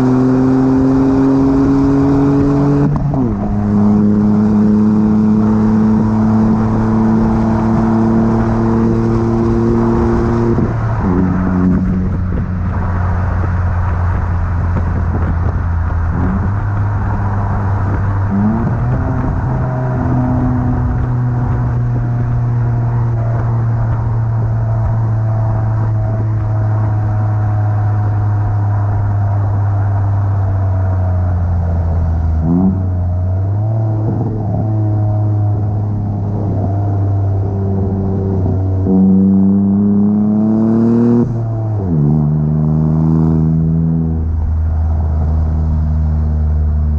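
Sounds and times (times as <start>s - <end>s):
car engine through sports exhaust: 0.0s - 46.9s.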